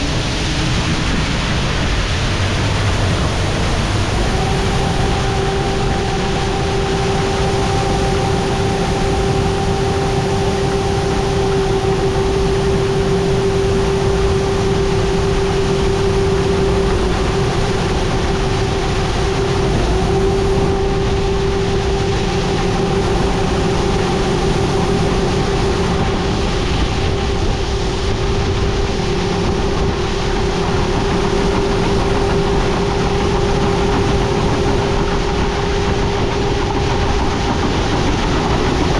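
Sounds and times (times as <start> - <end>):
farm vehicle engine running: 0.0 - 38.9.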